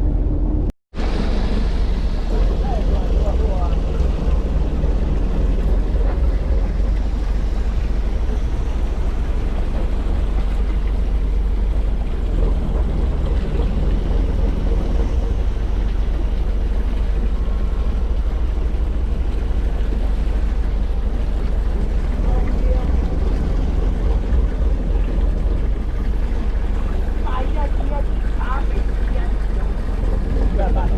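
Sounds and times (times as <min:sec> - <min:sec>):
boat engine rumbling: 0:00.0 - 0:30.9
steady hum: 0:00.0 - 0:30.9.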